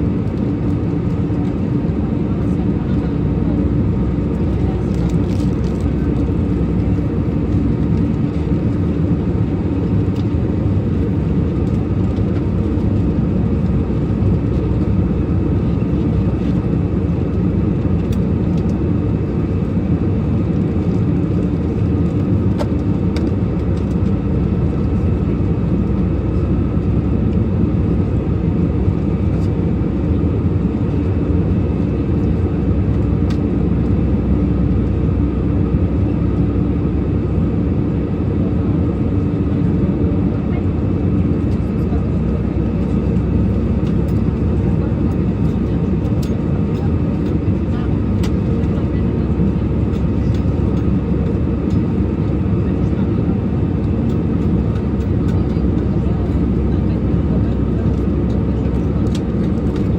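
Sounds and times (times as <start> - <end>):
airliner engine drone: 0.0 - 59.9.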